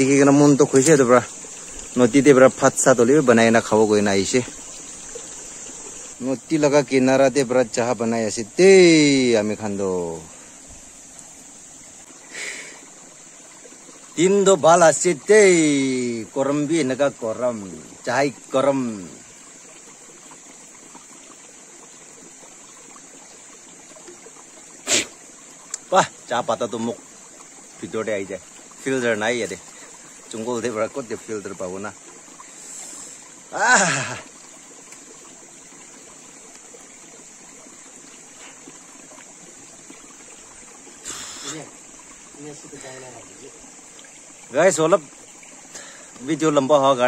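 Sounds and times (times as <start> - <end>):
stream trickling over rocks: 0.0 - 47.0.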